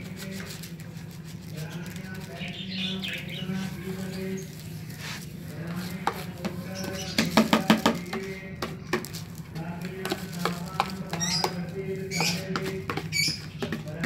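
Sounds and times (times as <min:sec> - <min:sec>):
small birds chirping: 0:01.5 - 0:14.0.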